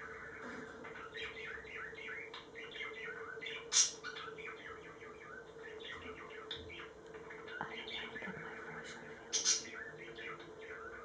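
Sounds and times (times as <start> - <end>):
budgerigars warbling: 0.0 - 11.0.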